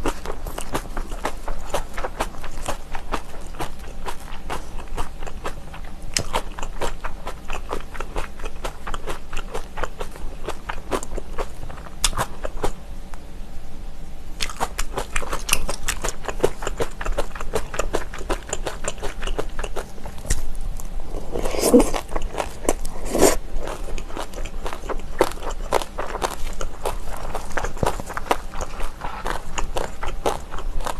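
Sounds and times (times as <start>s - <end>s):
chewing and crunching food: 0.0s - 12.8s, 14.4s - 30.9s.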